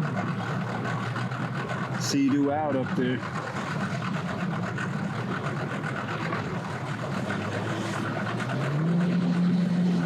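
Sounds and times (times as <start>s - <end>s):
engines idling: 0.0s - 10.0s.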